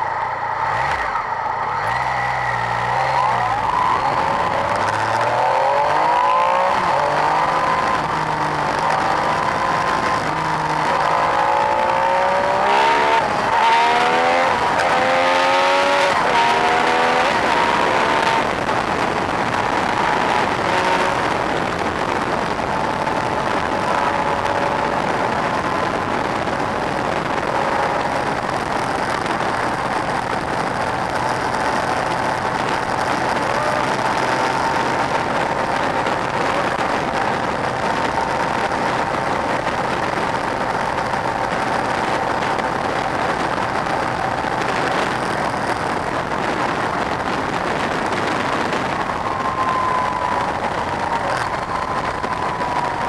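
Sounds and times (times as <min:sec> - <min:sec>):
motorcycle engine cruising: 0:00.0 - 0:53.0
wind rushing: 0:01.8 - 0:53.0.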